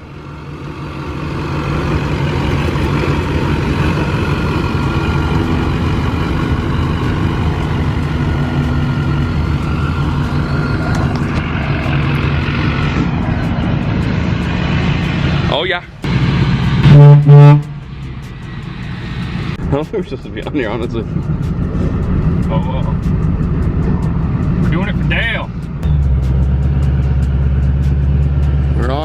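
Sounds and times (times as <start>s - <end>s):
diesel pickup truck engine running: 0.0s - 29.0s.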